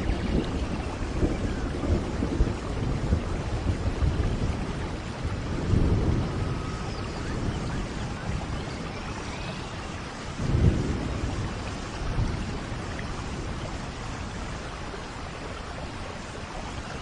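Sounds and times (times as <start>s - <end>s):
rain falling in forest: 0.0s - 17.0s.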